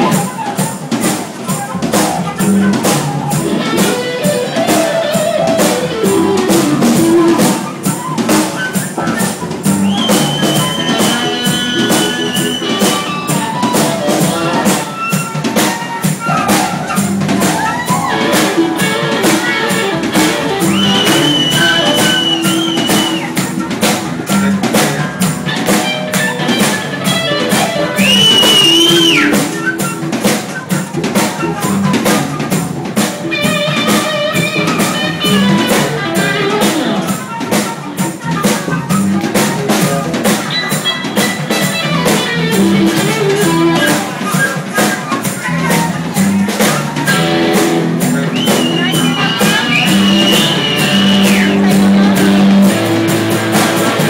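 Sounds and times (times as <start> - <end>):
drum kit beat: 0.0 - 54.0
live rock band playing: 0.0 - 54.0
lead instrument long high notes: 2.4 - 54.0.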